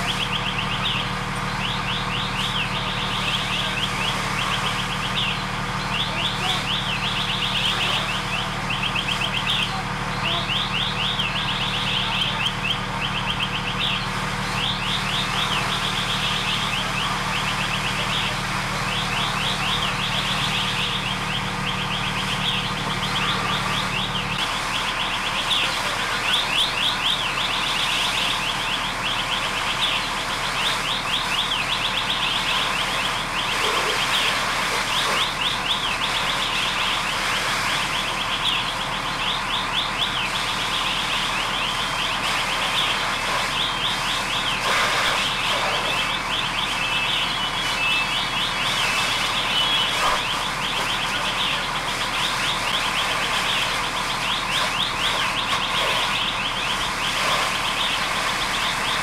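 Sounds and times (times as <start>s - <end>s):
electronic alarm chirping sweeps: 0.0s - 59.0s.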